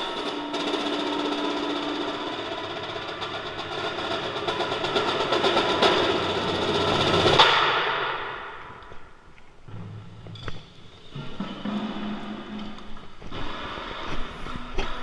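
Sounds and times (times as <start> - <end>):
percussion ensemble rolling: 0.0 - 8.4, 9.8 - 15.0.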